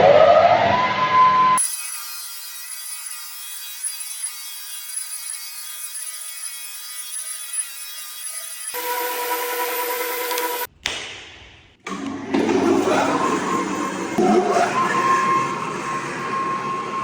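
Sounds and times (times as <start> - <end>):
floor sanding machine whining: 1.6 - 10.7, 12.4 - 17.0.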